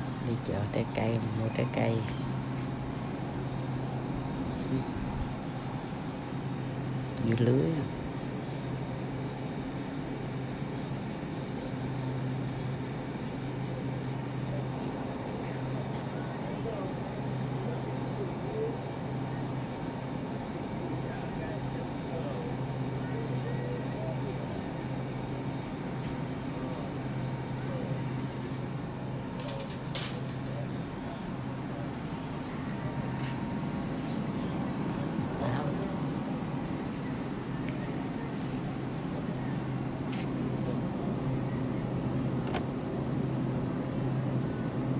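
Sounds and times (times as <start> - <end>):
refrigeration hum: 0.0 - 44.9.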